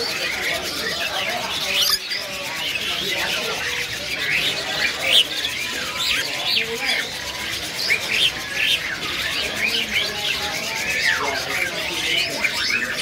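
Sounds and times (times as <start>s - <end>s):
caged birds chirping: 0.0s - 13.0s
faint voices: 0.0s - 13.0s.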